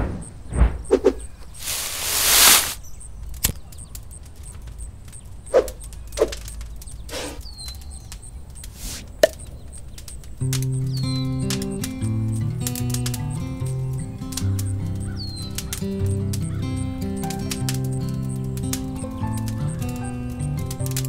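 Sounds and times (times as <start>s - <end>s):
scattered clicks: 1.4s - 21.0s.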